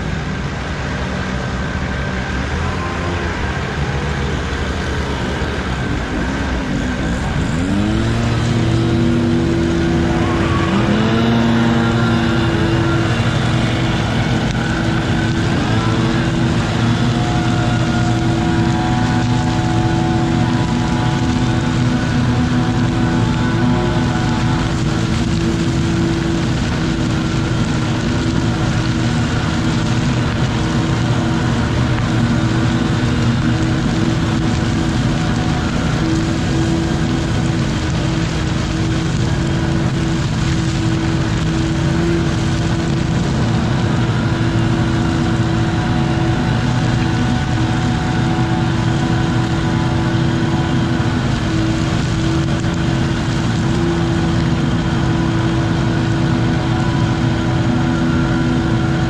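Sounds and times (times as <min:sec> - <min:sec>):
leaf vacuum engine revving: 0:00.0 - 0:59.0
vacuum hose sucking leaves: 0:05.0 - 0:59.0.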